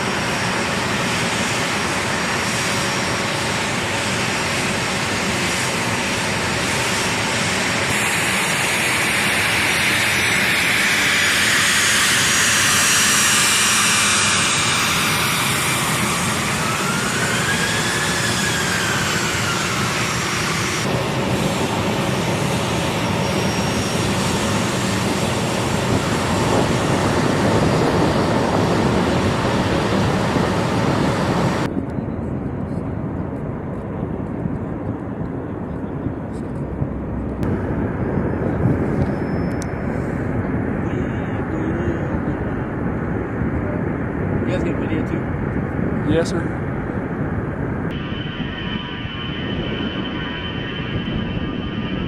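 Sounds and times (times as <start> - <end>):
jet engines roaring with whine: 0.0 - 52.0.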